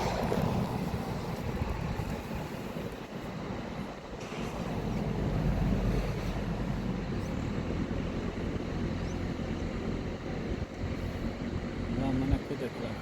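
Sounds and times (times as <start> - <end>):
wind noise on microphone: 0.0 - 12.4
diesel engine low rumble: 0.0 - 13.0.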